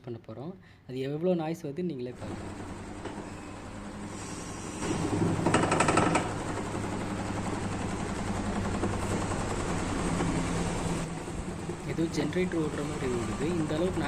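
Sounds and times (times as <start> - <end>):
washing machine spinning drone: 2.2 - 14.0.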